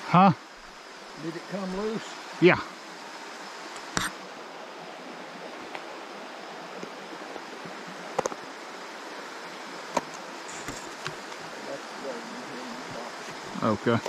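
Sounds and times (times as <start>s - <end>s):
creek rushing: 0.0s - 14.0s.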